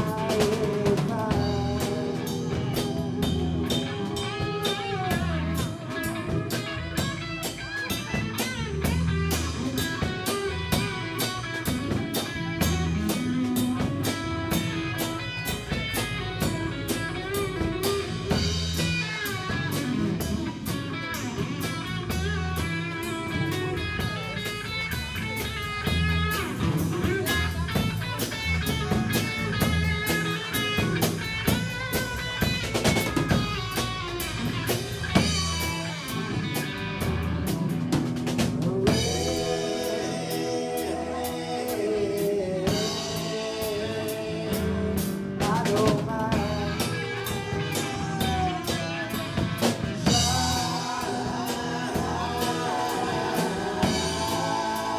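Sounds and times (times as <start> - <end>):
drum kit beat: 0.0 - 54.9
electric guitars: 0.0 - 54.9.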